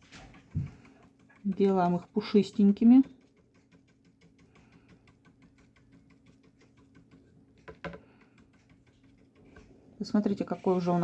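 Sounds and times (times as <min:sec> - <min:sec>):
paintbrush tapping on paper: 0:00.0 - 0:11.0.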